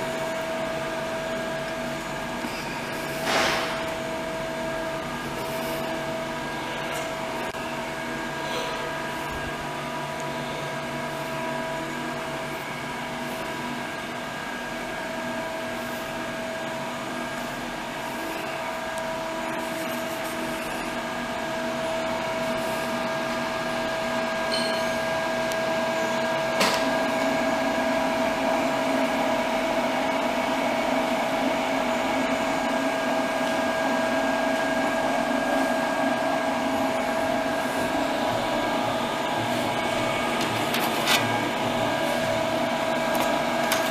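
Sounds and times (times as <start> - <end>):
machine fans whirring: 0.0 - 43.9.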